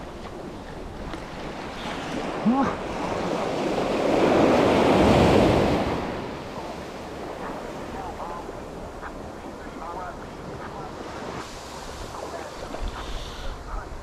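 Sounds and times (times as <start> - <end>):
sea waves washing on beach: 0.0 - 14.0.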